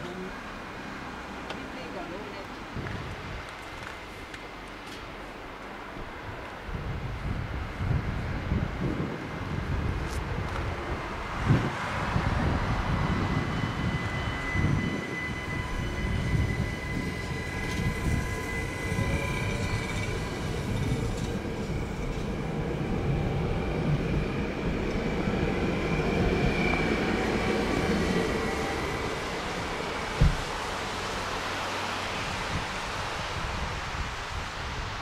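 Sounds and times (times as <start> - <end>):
train wheels rumbling on rails: 1.2 - 35.0.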